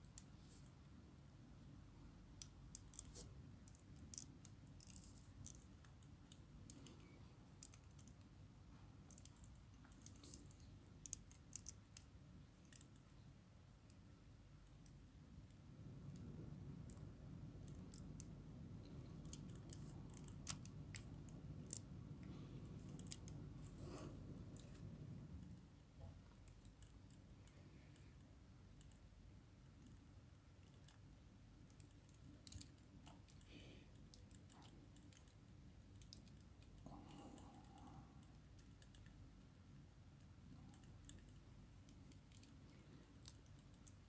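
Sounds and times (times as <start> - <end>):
low background rumble: 0.1 - 44.0.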